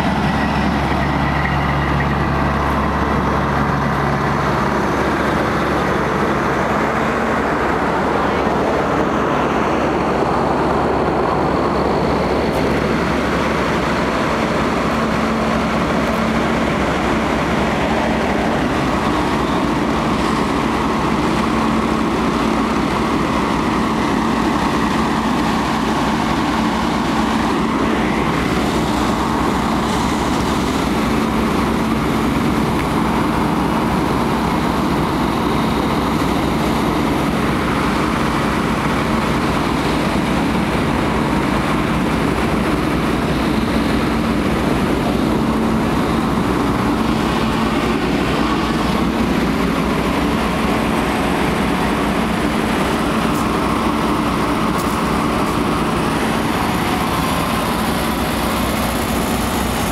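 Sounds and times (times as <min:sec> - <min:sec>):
fire engine pump droning: 0:00.0 - 0:59.9.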